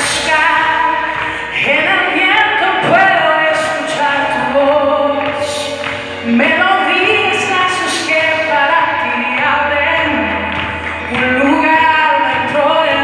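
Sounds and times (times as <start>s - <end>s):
musical accompaniment: 0.0s - 13.0s.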